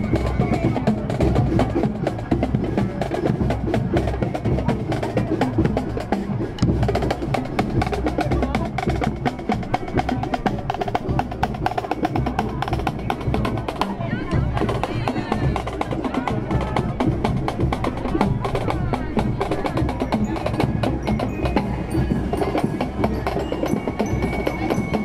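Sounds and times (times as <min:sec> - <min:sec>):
snare drums: 0:00.0 - 0:25.0.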